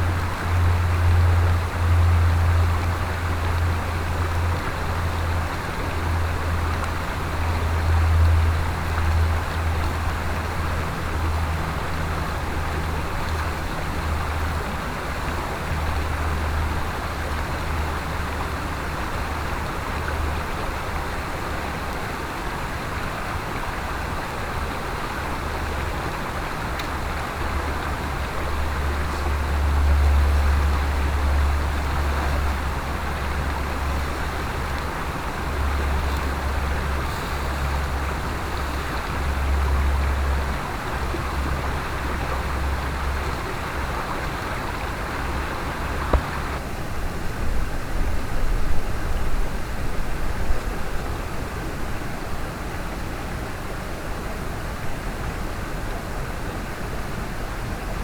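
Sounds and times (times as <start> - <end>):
mountain stream flowing: 0.0 - 58.0.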